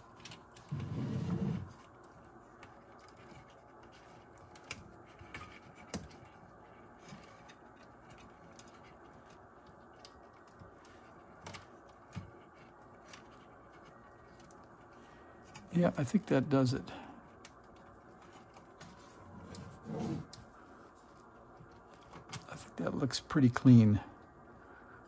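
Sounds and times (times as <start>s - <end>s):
clicks and scrapes of wires: 0.0s - 22.7s.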